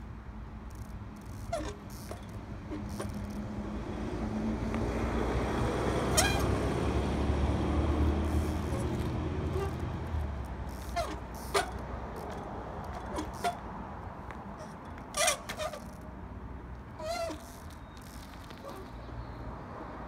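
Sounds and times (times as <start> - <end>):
bus engine rumble: 0.0 - 20.0
bike squeaks: 0.7 - 3.8, 5.9 - 16.2, 16.8 - 19.5.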